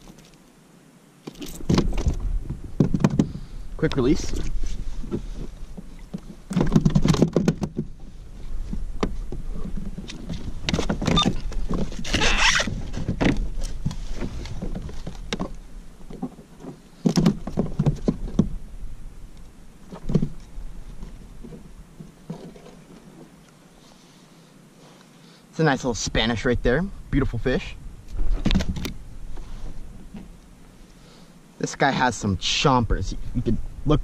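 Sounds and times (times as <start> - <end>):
rasping rustle: 1.2 - 25.5, 28.0 - 31.6.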